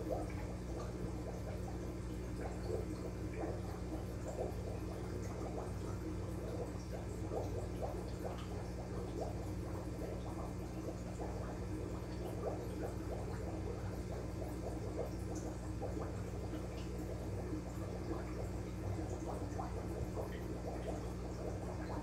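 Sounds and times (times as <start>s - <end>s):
aquarium water bubbling: 0.0s - 22.0s
steady low hum: 0.0s - 22.0s.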